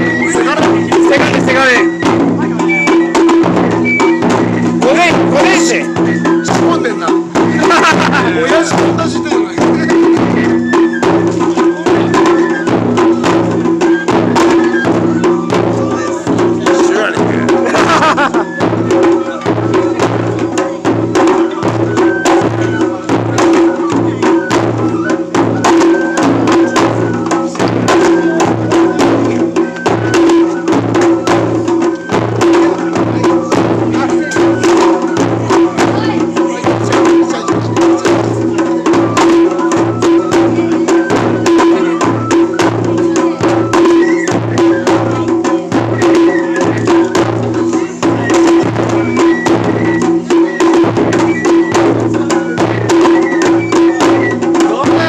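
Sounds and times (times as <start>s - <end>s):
taiko drums beating: 0.0s - 55.0s.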